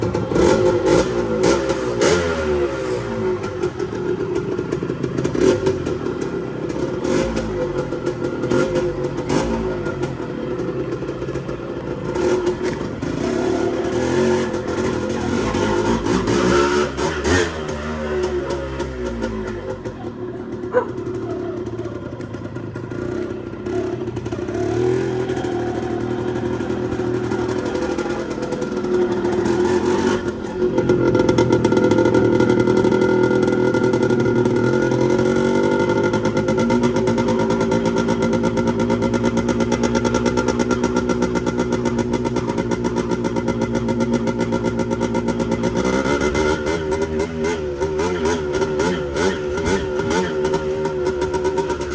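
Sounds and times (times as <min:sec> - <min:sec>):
two-stroke motorcycle engine running: 0:00.0 - 0:51.9.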